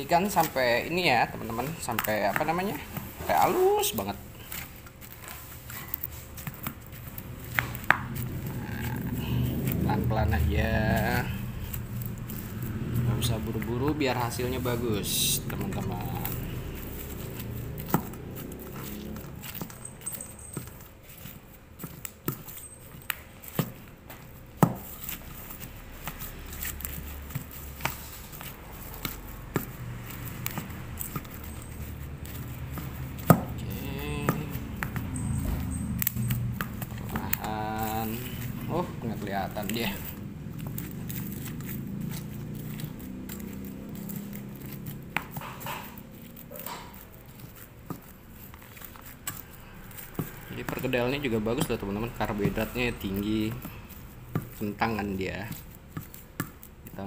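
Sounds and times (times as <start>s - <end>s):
pestle mashing potatoes: 0.0s - 57.0s.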